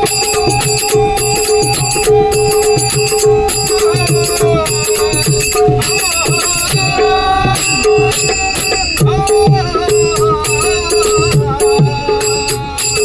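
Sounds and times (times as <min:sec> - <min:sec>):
jingling hand percussion: 0:00.0 - 0:13.0
steady drum rhythm: 0:00.0 - 0:13.0
sustained held notes: 0:00.0 - 0:13.0.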